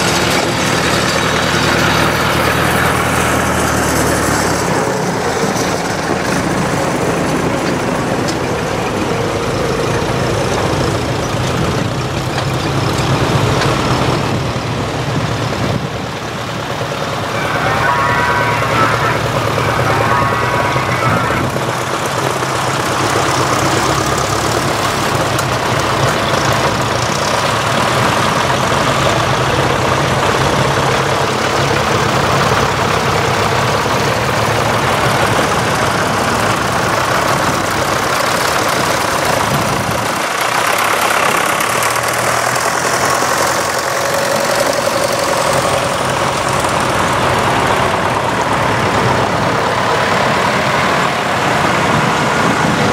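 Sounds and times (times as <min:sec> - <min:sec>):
tractor engines knocking: 0:00.0 - 0:52.9.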